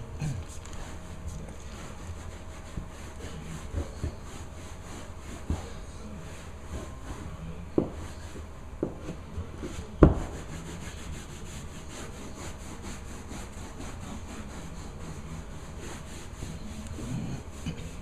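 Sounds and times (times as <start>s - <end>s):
carpet being scrubbed by hand: 0.0s - 18.0s.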